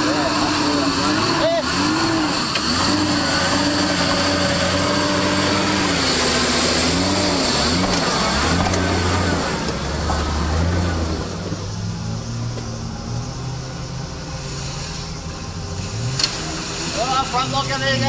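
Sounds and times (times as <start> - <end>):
off-road engine revving: 0.0 - 18.0.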